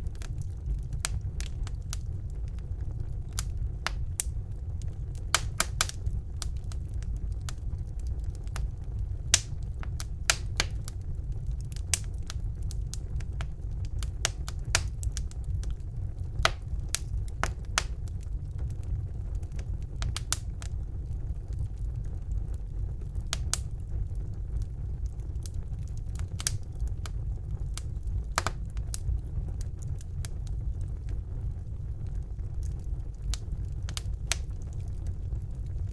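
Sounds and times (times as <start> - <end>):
fire crackling and popping: 0.0 - 35.9
low rumble of flames: 0.0 - 35.9.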